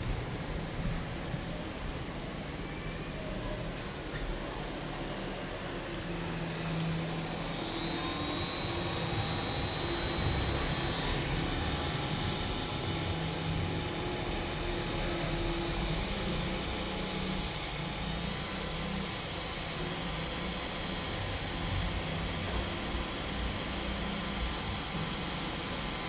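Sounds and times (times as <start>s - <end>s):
high motor whine: 0.0s - 26.0s
hot-air blower rushing airflow: 4.4s - 26.0s.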